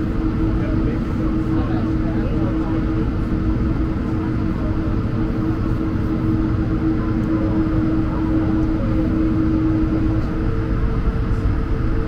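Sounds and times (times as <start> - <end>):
jet engines humming in cabin: 0.0 - 12.0.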